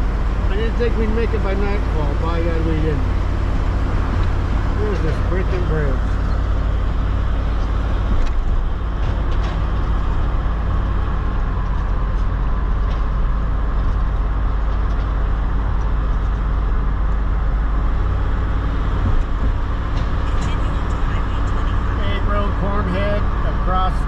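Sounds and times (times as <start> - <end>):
engine and road drone: 0.0 - 24.0.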